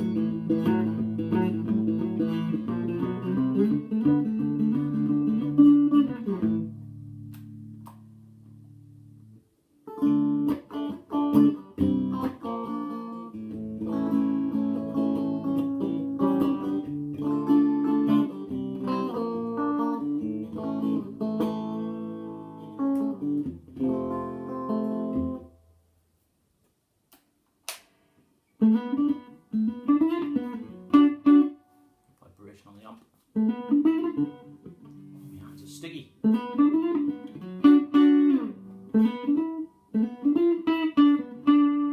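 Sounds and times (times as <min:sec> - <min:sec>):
clean electric guitar playing: 0:00.0 - 0:25.7, 0:28.6 - 0:31.9, 0:33.3 - 0:41.9.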